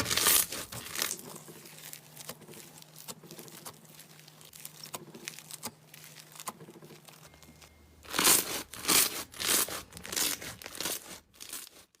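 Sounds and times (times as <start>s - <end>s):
slime crackling squishes: 0.0s - 12.0s.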